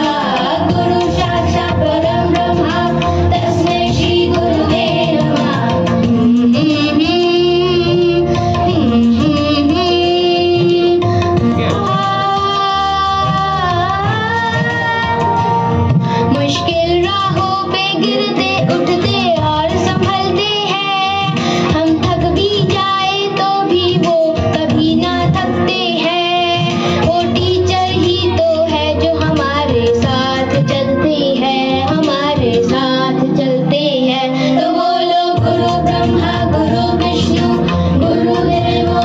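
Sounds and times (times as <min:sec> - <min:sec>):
instrumental backing music: 0:00.0 - 0:39.0.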